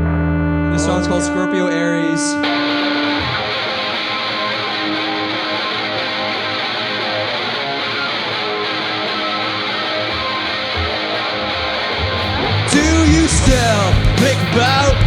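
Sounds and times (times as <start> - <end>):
distorted electric guitar strumming: 0.0 - 15.0
live rock band: 2.2 - 15.0.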